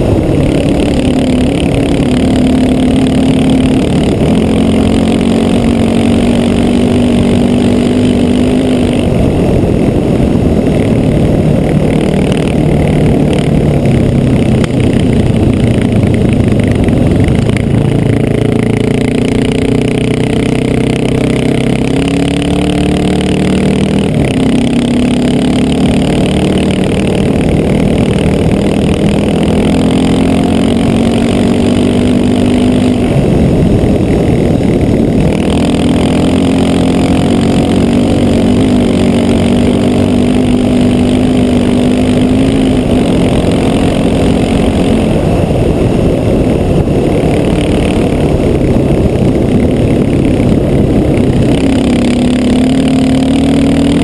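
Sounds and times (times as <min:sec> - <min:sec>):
motorcycle engine running: 0:00.0 - 0:54.0
steady rushing noise: 0:00.0 - 0:54.0.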